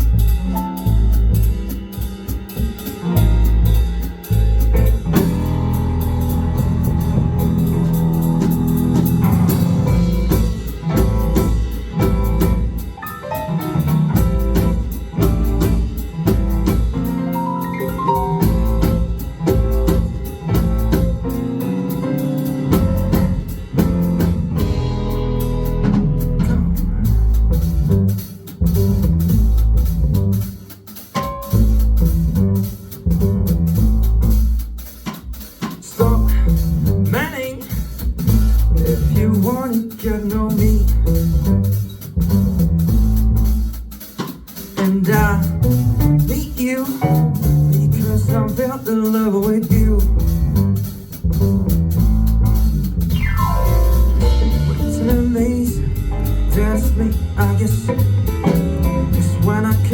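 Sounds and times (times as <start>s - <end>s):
drum kit beat: 0.0s - 59.9s
funk band playing: 0.0s - 59.9s.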